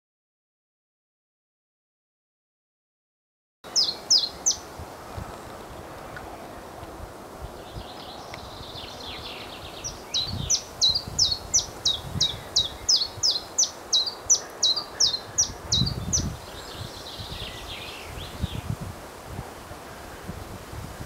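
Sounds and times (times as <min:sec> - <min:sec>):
leaves rustling: 0:03.7 - 0:21.0
wind rumbling on microphone: 0:03.7 - 0:21.0.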